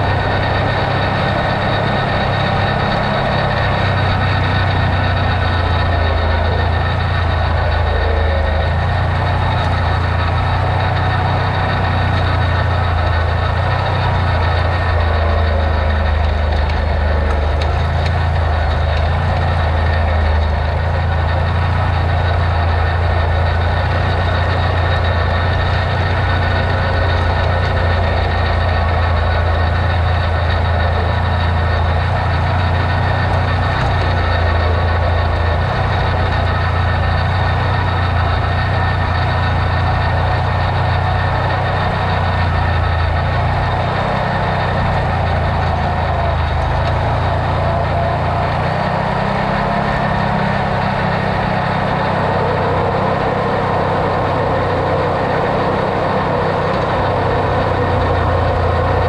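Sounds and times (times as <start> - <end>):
engine running with low drone: 0.0 - 59.0.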